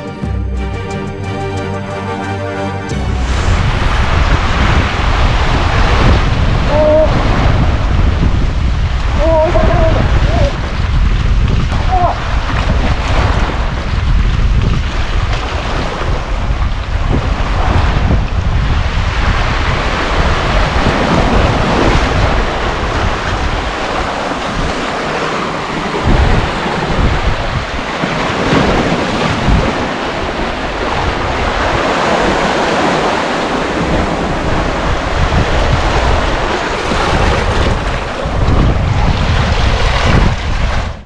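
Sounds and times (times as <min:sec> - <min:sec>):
wind buffeting microphone: 0:02.8 - 0:41.0
waves washing against rocks: 0:03.1 - 0:41.0.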